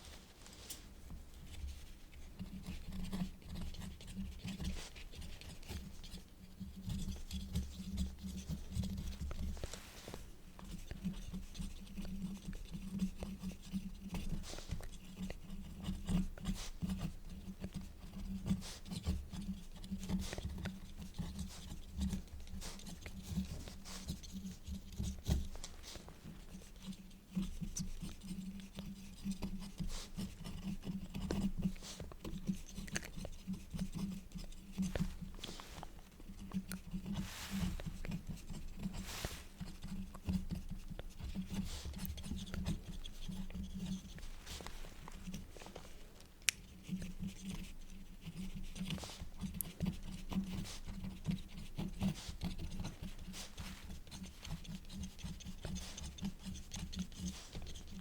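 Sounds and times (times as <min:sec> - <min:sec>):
quill scratching on paper: 0:01.4 - 0:45.8, 0:46.6 - 0:58.0.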